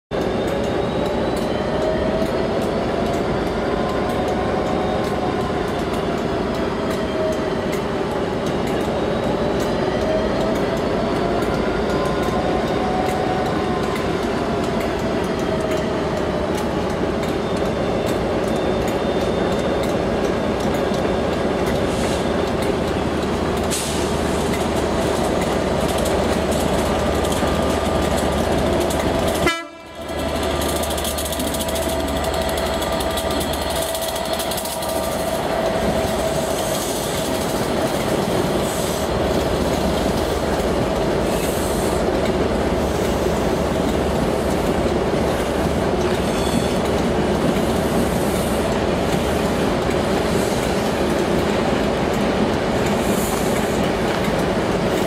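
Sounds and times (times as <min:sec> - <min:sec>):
locomotive engine and wheels rumbling: 0:00.1 - 0:55.0.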